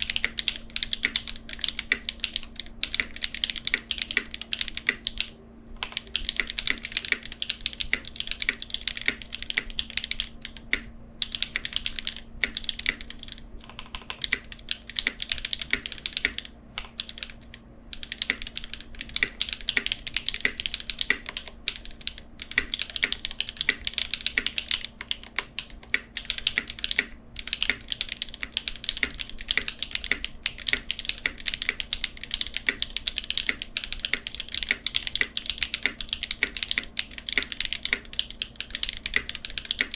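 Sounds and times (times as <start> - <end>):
faint steady hum: 0.0 - 39.9
mechanical keyboard typing: 0.0 - 39.9.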